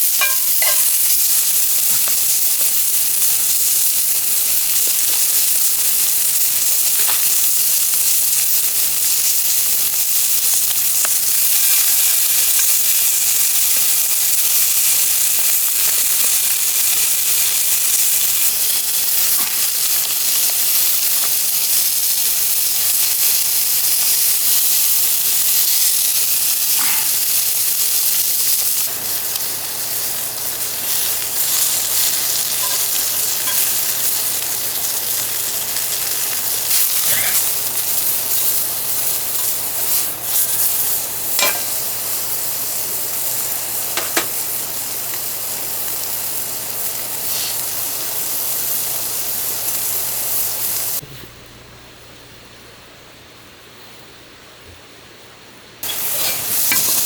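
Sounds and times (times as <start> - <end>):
food sizzling in a pan: 0.0 - 51.0, 55.8 - 57.0.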